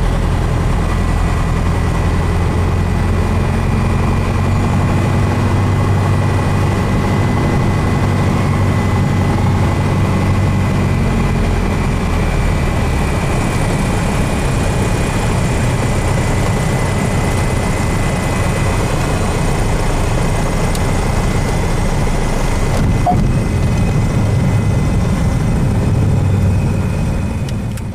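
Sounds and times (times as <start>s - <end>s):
airplane engine and propeller: 0.0s - 27.9s.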